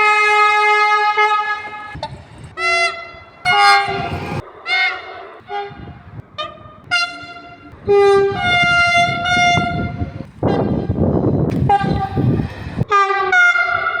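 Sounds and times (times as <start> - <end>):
running train rumble: 0.0 - 14.0
train horns: 0.0 - 14.0.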